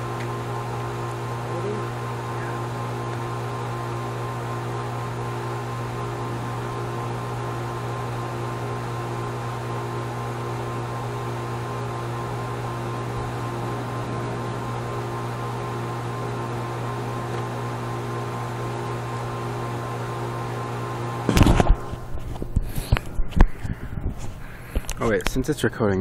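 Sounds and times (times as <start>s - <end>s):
machine hum with hiss: 0.0s - 25.0s.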